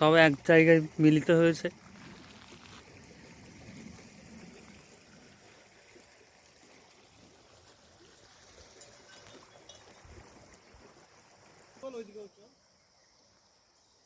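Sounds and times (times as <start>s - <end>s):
river stream flowing: 0.0s - 14.0s.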